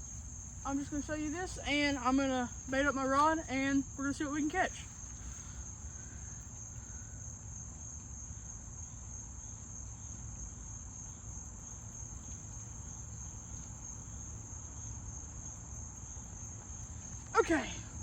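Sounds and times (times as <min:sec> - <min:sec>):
chorus of crickets: 0:00.0 - 0:18.0.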